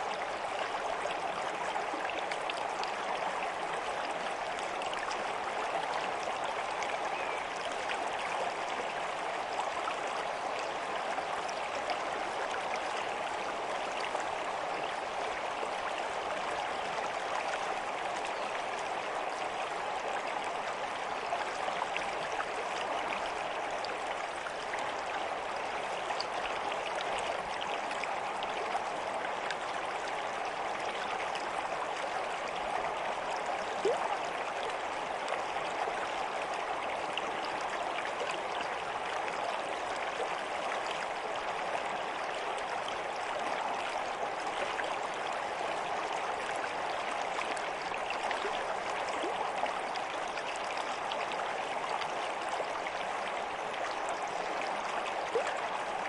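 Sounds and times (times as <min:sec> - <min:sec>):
small stream babbling: 0:00.0 - 0:56.0.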